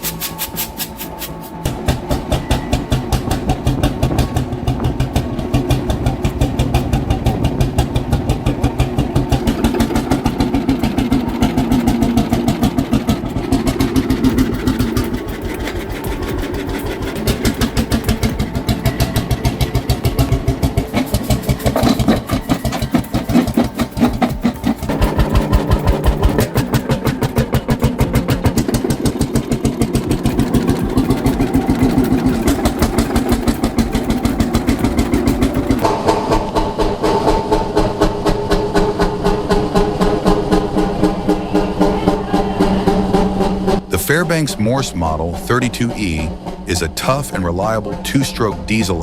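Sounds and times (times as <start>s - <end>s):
stationary diesel engine running: 0.0s - 49.0s.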